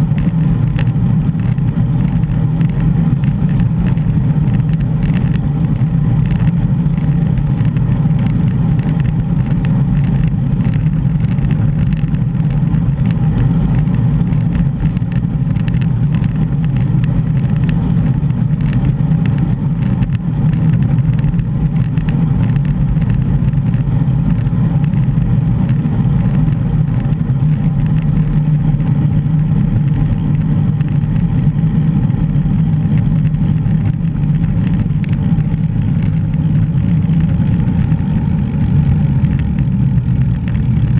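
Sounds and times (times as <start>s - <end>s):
bicycle bumps and rattles: 0.0s - 40.9s
wind and road noise rumble: 0.0s - 40.9s.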